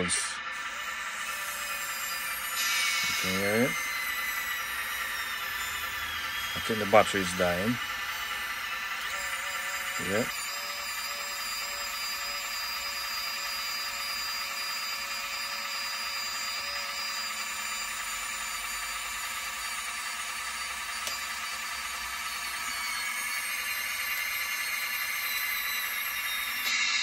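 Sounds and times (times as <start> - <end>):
small electric motor whining: 0.0 - 27.0.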